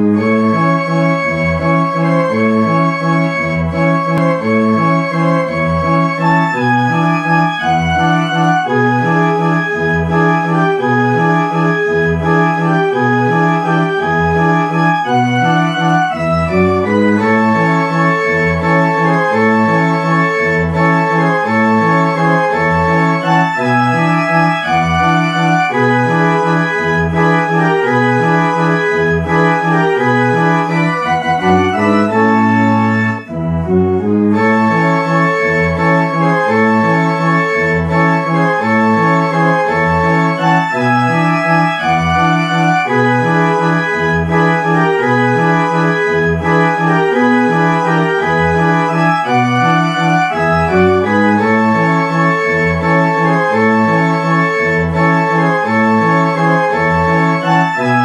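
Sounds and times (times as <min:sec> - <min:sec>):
band organ oom-pah music: 0:00.0 - 0:58.0.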